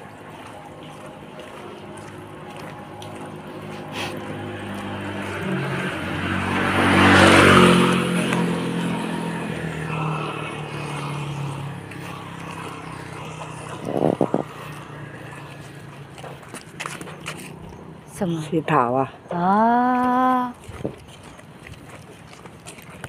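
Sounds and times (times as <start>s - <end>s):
vehicle passing on wet road: 0.0s - 19.2s.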